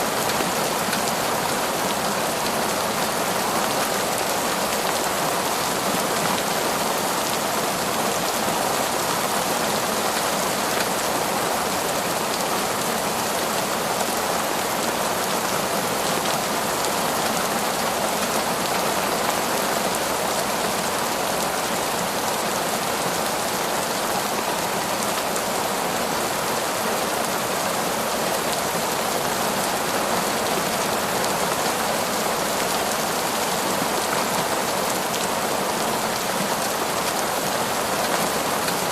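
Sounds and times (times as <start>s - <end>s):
torrential rain on foliage: 0.0s - 38.9s.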